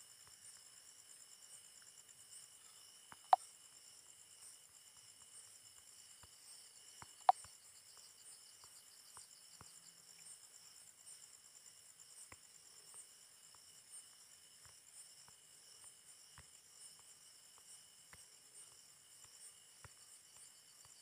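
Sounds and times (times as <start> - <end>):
insects chirring: 0.1 - 21.0
faint ticks: 1.7 - 11.1, 12.1 - 21.0.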